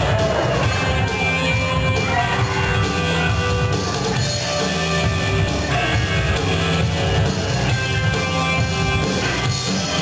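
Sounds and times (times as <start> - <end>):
rock music over speakers: 0.0 - 10.0.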